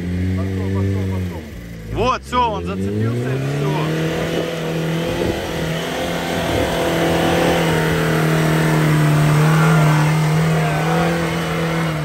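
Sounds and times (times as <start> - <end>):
off-road vehicle engine at high revs: 0.0 - 12.0.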